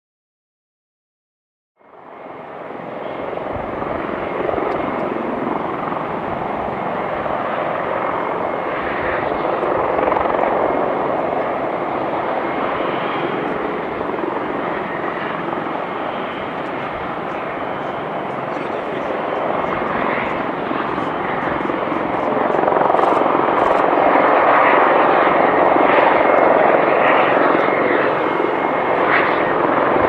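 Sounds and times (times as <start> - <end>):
jet engines roaring at takeoff: 1.8 - 30.0.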